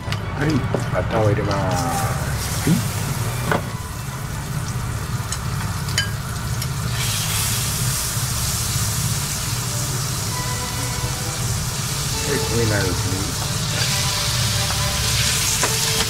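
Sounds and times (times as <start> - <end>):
butter sizzling in a frying pan: 2.4 - 16.0.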